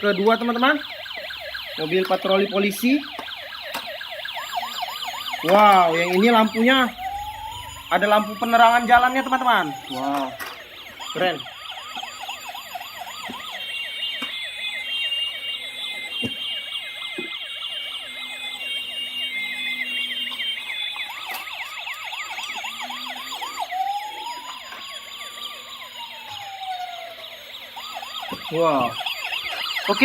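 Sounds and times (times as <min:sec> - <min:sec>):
slow rise-and-fall siren wail: 0:00.0 - 0:30.0
toy sirens warbling: 0:00.0 - 0:30.0.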